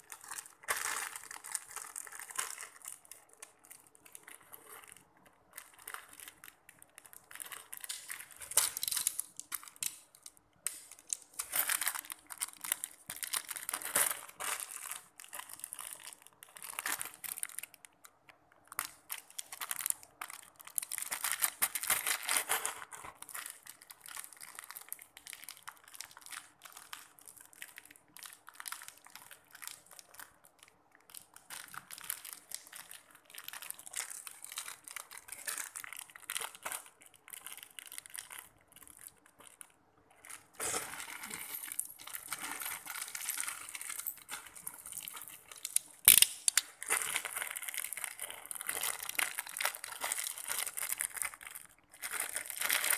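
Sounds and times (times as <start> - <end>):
plastic packaging crinkling: 0.0 - 52.9.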